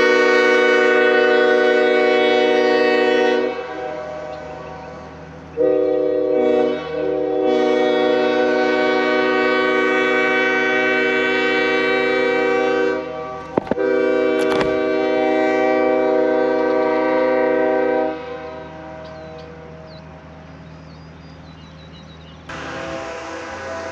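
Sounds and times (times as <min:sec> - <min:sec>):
train horn chord blasts: 0:00.0 - 0:20.0, 0:22.5 - 0:23.9.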